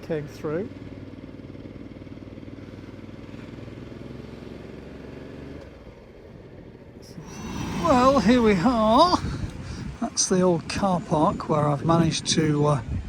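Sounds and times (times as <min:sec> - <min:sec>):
motorcycle engine running: 0:00.0 - 0:11.3.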